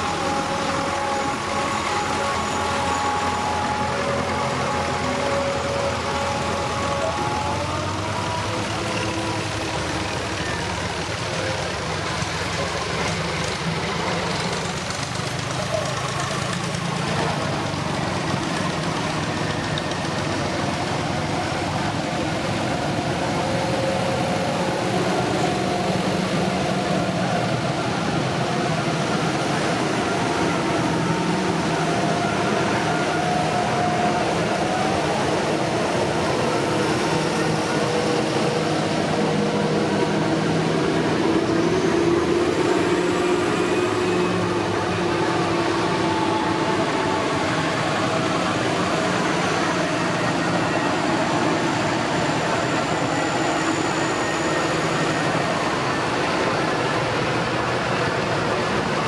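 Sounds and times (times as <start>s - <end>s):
diesel tractor engines passing: 0.0s - 59.0s.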